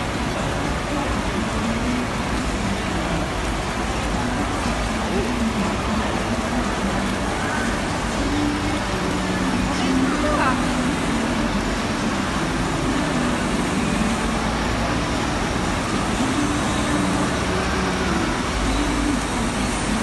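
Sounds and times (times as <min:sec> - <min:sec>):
traffic hum: 0:00.0 - 0:20.0.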